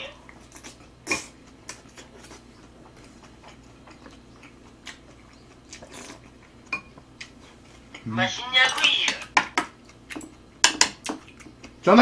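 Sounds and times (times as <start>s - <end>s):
person chewing food: 0.2s - 8.1s, 9.5s - 11.8s.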